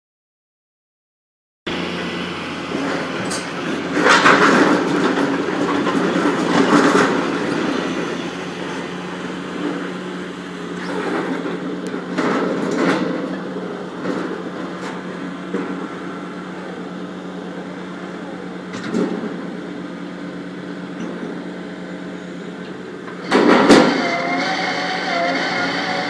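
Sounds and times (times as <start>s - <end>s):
heavy machinery humming: 1.7s - 26.0s
machinery clanking and rattling: 1.7s - 26.0s.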